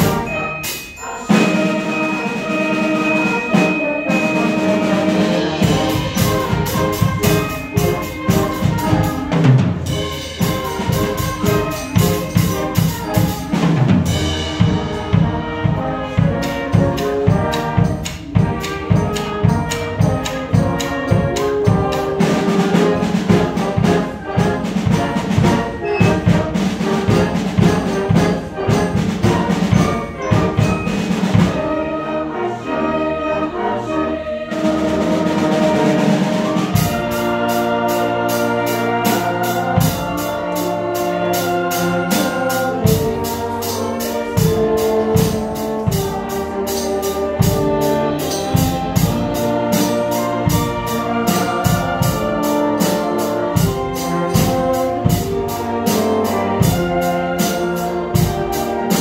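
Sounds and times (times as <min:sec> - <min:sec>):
steady drum beat: 0:00.0 - 0:32.5, 0:33.4 - 0:59.0
concert band and choir: 0:00.0 - 0:59.0.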